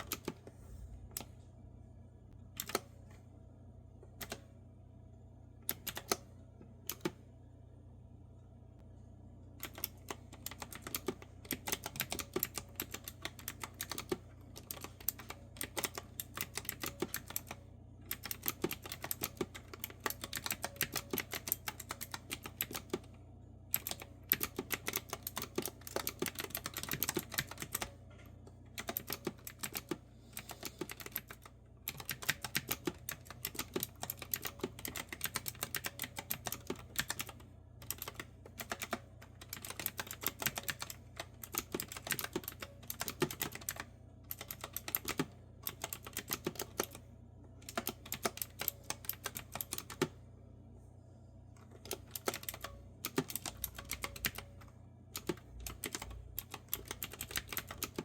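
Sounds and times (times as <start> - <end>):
mechanical keyboard typing: 0.0 - 0.5, 2.6 - 2.9, 4.2 - 4.4, 5.6 - 6.3, 6.9 - 7.2, 9.6 - 23.1, 23.7 - 27.9, 28.7 - 50.2, 51.6 - 58.0.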